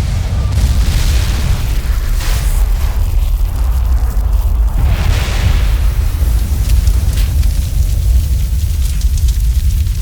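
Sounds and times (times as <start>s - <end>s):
deep explosion rumble: 0.0s - 10.0s.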